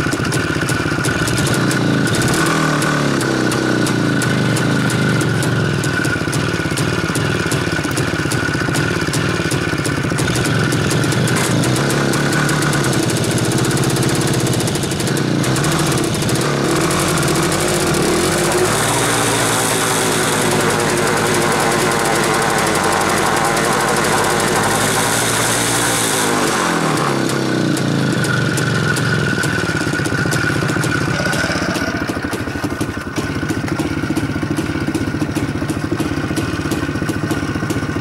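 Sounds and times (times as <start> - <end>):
two-stroke motorcycle engine idling: 0.0 - 38.0.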